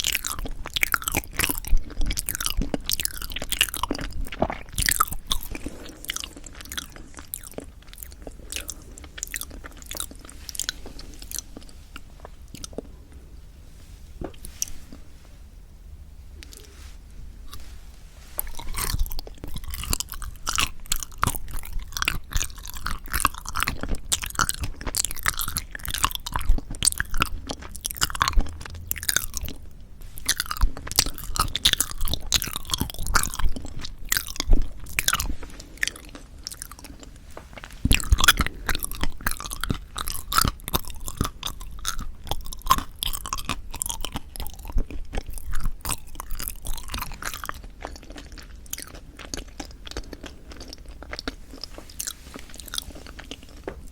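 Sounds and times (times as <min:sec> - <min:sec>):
chewing with wet mouth clicks: 0:00.0 - 0:12.9, 0:18.4 - 0:53.9.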